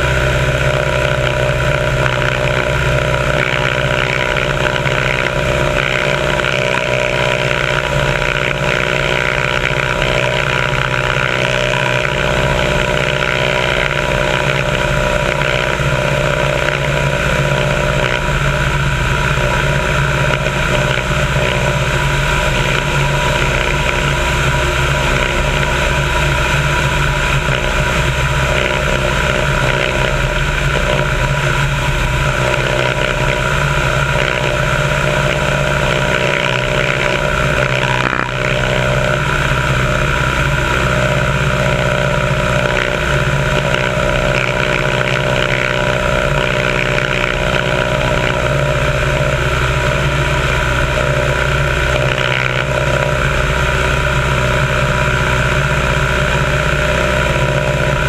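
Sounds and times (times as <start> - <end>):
propeller plane engine running: 0.0 - 58.0.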